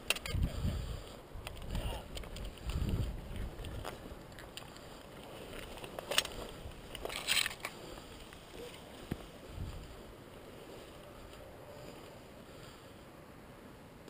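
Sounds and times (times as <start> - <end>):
bracken rustling as someone walks: 1.0 - 12.8.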